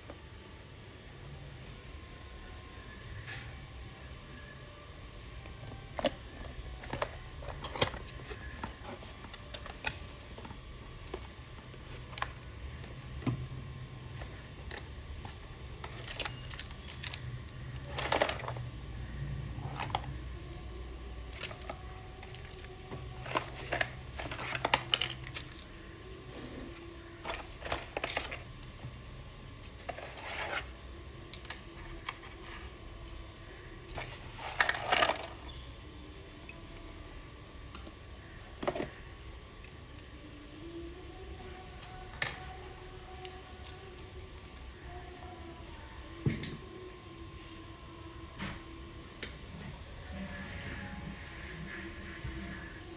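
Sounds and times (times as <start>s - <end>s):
low steady hum: 0.0s - 52.9s.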